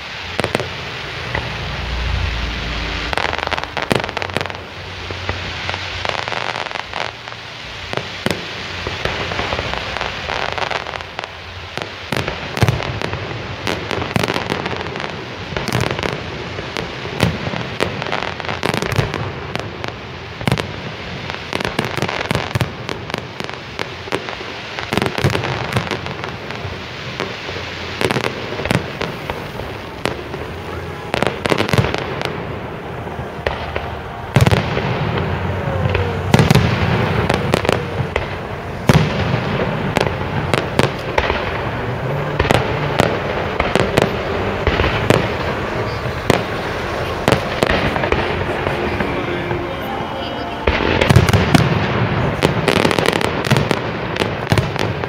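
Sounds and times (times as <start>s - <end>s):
fireworks bangs: 0.0s - 55.0s
fireworks crackle: 0.0s - 55.0s.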